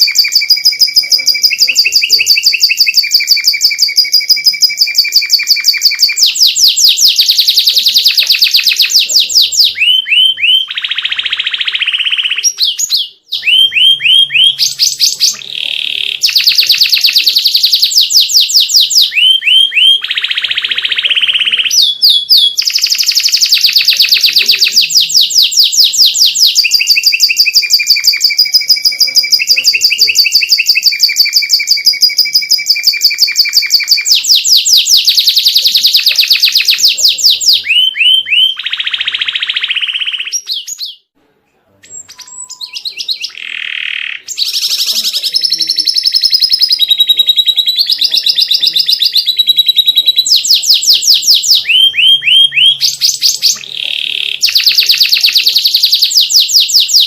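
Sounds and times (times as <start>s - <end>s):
canary singing trills: 0.0s - 41.1s, 41.8s - 57.0s.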